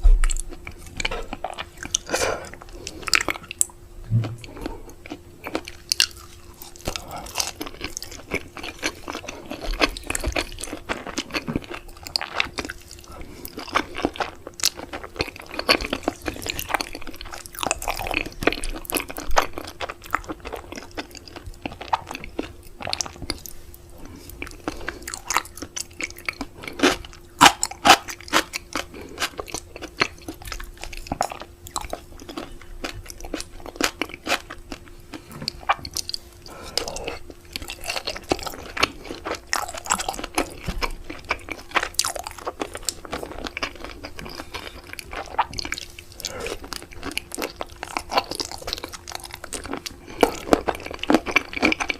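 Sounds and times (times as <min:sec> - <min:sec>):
chewing crunchy seafood: 0:00.0 - 0:51.9.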